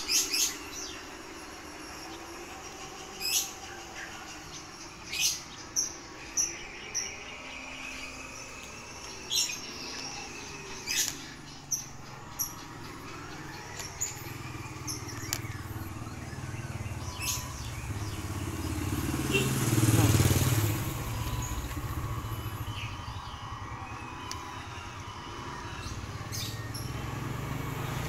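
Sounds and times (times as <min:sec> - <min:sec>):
birds chirping: 0:00.0 - 0:28.0
motorcycle engine hum: 0:00.0 - 0:28.0.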